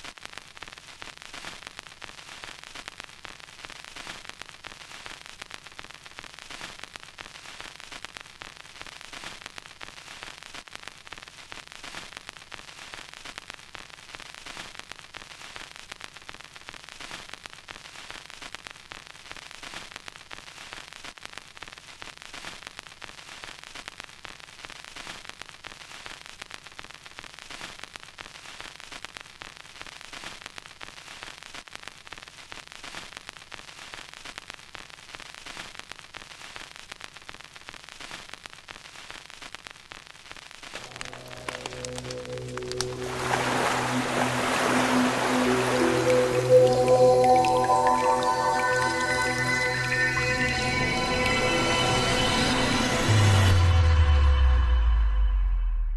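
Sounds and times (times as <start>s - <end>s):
vinyl record crackle: 0.0s - 52.4s.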